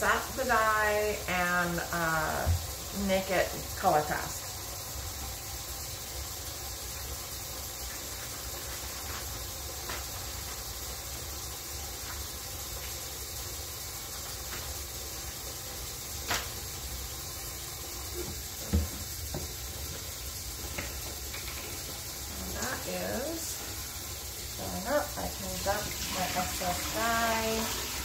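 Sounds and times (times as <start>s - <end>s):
faucet water running into tub: 0.0s - 28.0s.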